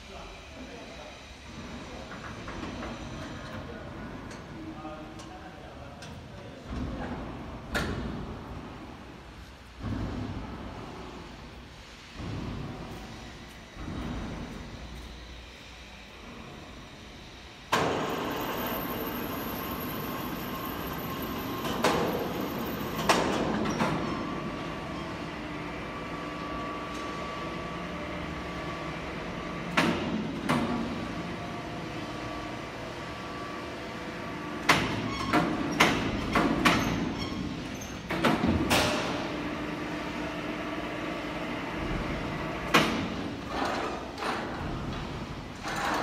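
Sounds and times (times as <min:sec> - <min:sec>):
factory hall background noise: 0:00.0 - 0:46.0.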